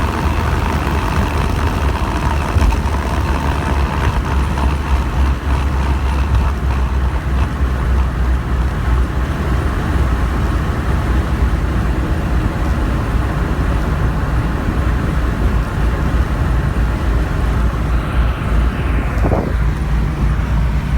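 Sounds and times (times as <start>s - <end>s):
car engine drone: 0.0s - 20.9s
tyre and road noise: 0.0s - 20.9s.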